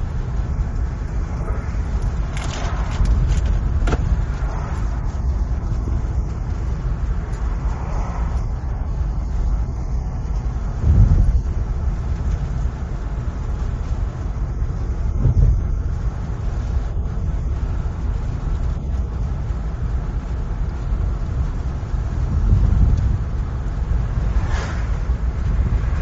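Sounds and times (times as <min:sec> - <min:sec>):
car driving on road: 0:00.0 - 0:26.0.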